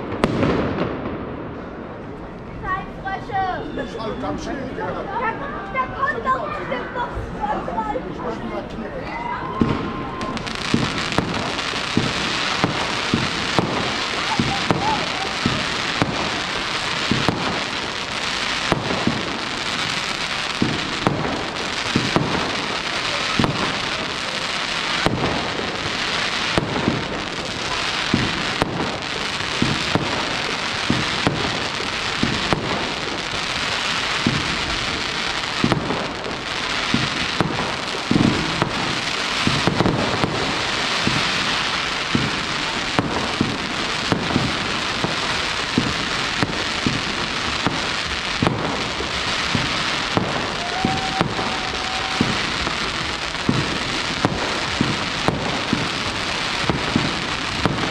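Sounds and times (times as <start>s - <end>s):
fireworks bangs: 0.0s - 7.4s, 9.2s - 57.9s
fireworks crackling: 0.0s - 57.9s.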